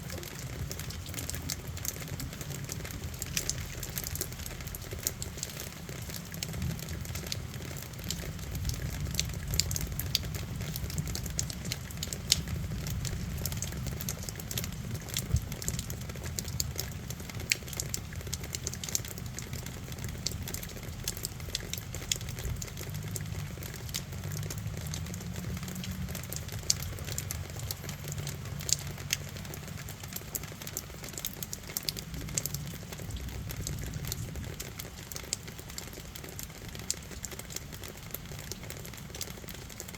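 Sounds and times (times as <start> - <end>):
continuous low rumble: 0.0 - 39.9
raindrops ticking: 0.0 - 39.9.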